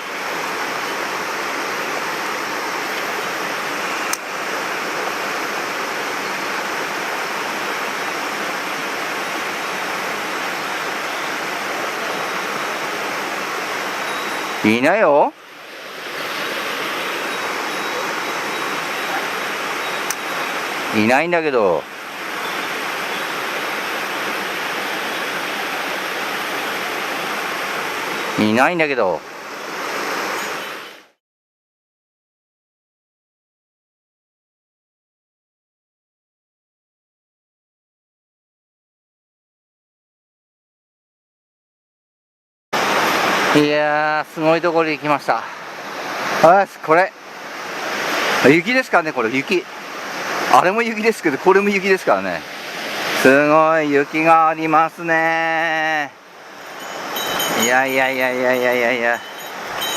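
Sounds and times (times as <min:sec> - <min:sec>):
stream rushing over rocks: 0:00.0 - 0:31.2, 0:42.8 - 0:59.9.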